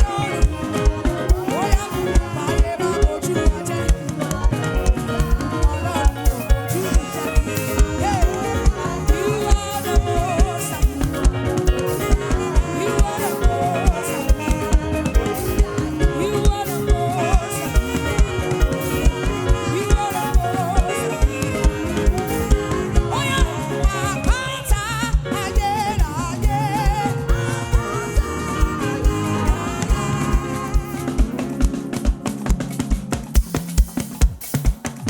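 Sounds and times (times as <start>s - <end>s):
gospel band music: 0.0s - 35.0s.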